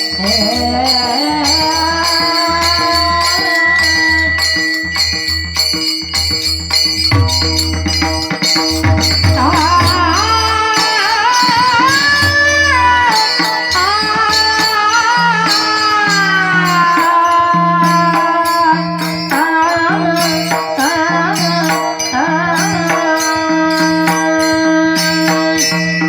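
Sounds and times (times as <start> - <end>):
jingling cymbal-like percussion: 0.0 - 26.0.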